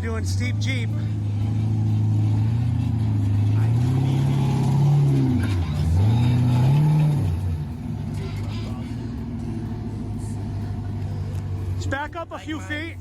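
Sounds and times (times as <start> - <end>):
engine revving under throttle: 0.0 - 11.8.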